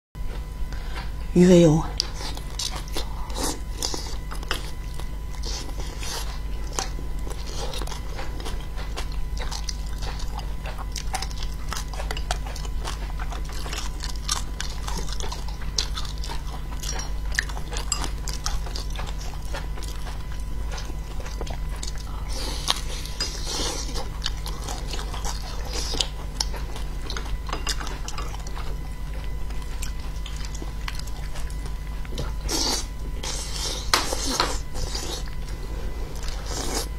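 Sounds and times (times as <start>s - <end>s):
steady low hum: 0.2s - 36.9s
close chewing: 1.8s - 36.9s.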